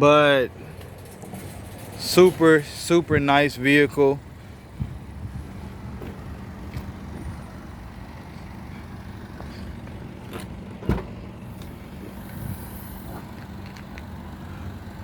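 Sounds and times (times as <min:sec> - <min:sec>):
motor vehicle humming: 0:00.0 - 0:15.0.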